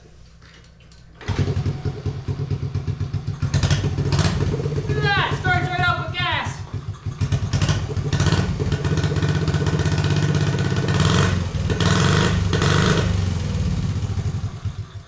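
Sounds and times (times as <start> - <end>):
small motorbike engine revving: 1.2 - 5.9, 6.7 - 15.0.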